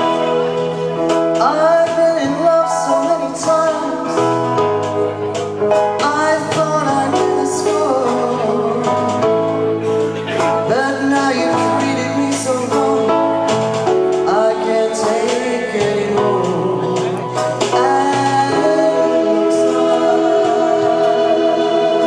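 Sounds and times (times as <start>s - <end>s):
woman singing a slow ballad: 0.0s - 4.7s, 6.0s - 9.5s, 10.6s - 22.0s
instrumental accompaniment: 0.0s - 22.0s.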